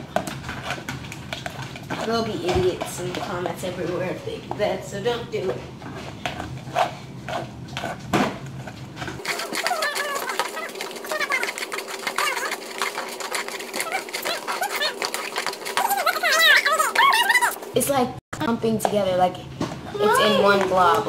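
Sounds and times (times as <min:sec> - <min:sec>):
spoons scraping slime in plastic tubs: 0:00.0 - 0:17.6.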